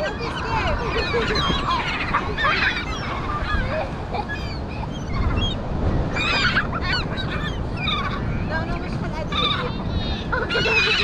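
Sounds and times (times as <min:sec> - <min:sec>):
seagulls squawking: 0:00.0 - 0:11.0.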